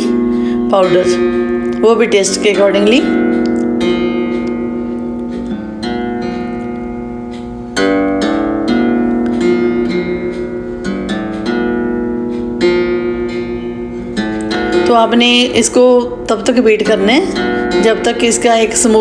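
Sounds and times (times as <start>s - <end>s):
plucked guitar chords: 0.0s - 19.0s.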